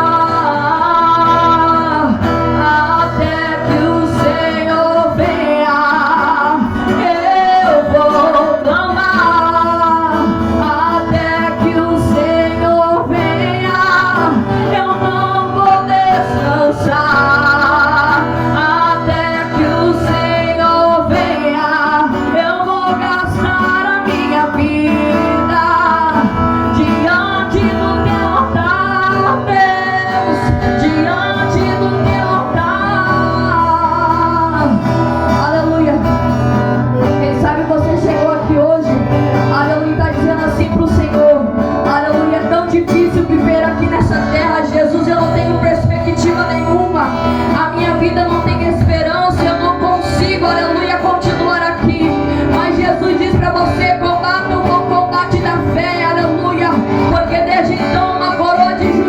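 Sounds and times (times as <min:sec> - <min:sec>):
guitar accompaniment: 0:00.0 - 0:59.0
woman singing: 0:00.0 - 0:59.0.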